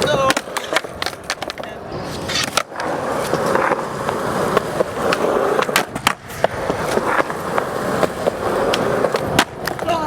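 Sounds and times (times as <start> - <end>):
skateboard clacking on ground: 0.0 - 10.0
skateboard wheels rolling: 0.0 - 10.0.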